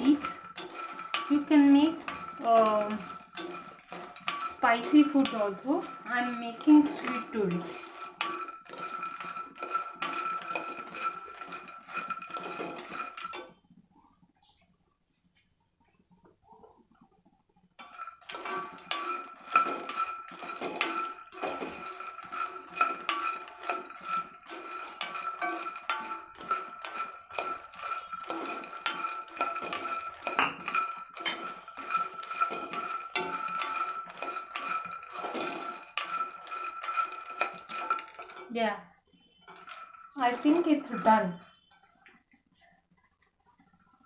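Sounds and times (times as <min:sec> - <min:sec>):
seeds rattling in pan: 0:00.0 - 0:13.6, 0:17.8 - 0:41.7.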